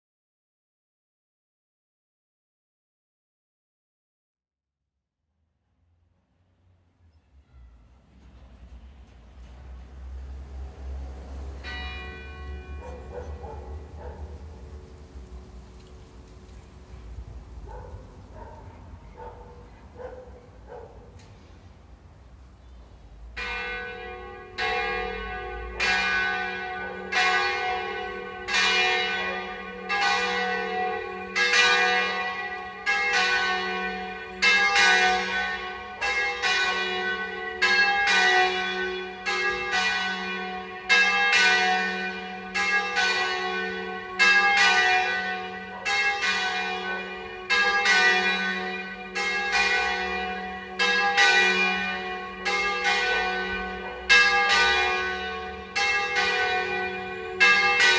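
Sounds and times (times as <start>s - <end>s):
church bells ringing: 9.0s - 21.4s, 23.3s - 57.9s.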